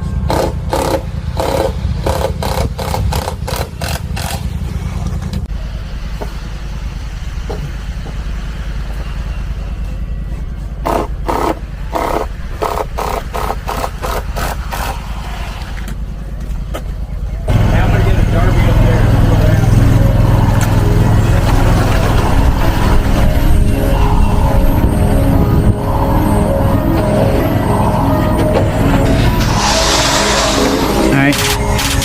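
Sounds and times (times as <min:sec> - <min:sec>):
construction equipment engine running: 0:00.0 - 0:32.0.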